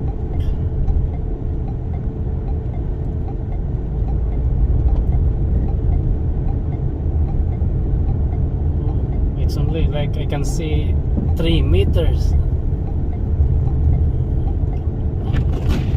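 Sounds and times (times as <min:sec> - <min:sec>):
low rumble of tyres engine and wind: 0:00.0 - 0:15.9.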